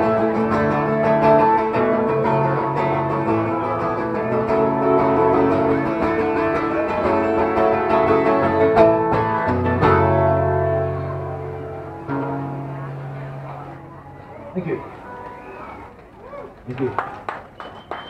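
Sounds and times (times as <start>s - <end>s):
live band playing guitar music: 0.0s - 15.8s.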